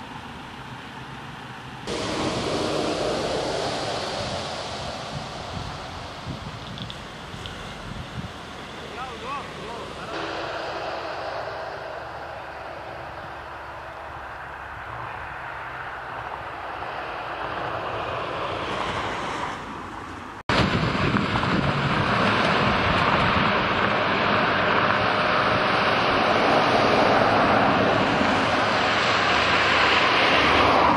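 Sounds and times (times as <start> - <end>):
roadside noise: 0.0 - 30.9
wind rushing on microphone: 1.9 - 30.9.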